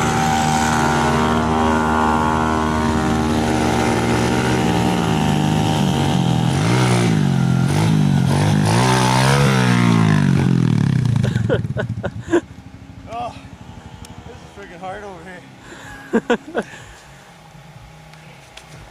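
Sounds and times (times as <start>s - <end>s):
pit bike engine revving: 0.0s - 17.2s.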